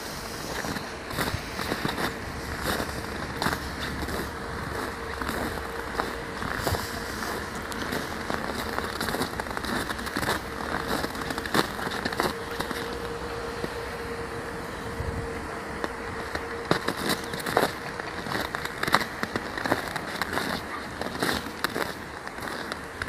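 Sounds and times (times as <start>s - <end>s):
faint steady hum: 0.0s - 23.0s
steady rushing rumble: 0.0s - 23.0s
crackles and clicks: 0.3s - 23.0s.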